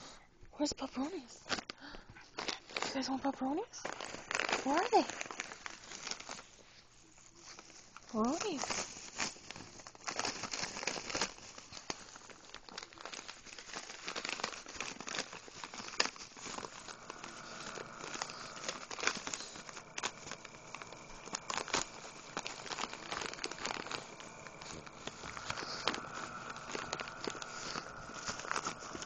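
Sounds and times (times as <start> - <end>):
plastic bag crinkling: 1.4 - 29.0.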